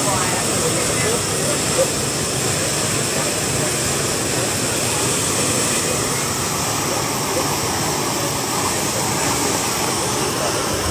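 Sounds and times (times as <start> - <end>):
water jet gushing and splashing: 0.0 - 10.9.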